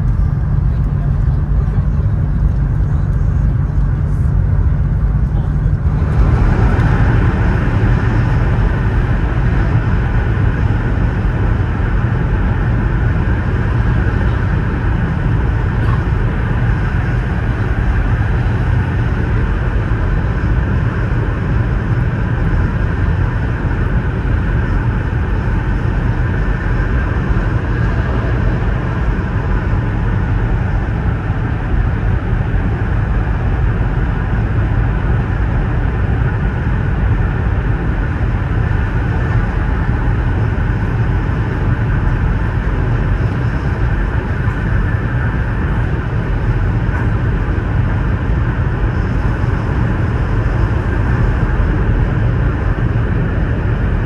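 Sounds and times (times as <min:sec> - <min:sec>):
train running noise inside car: 0:00.0 - 0:54.0.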